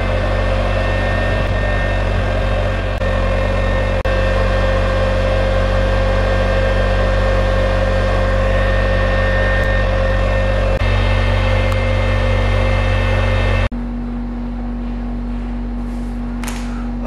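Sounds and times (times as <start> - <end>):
cooling fan whining: 0.0 - 17.0
low electrical hum: 0.0 - 17.0.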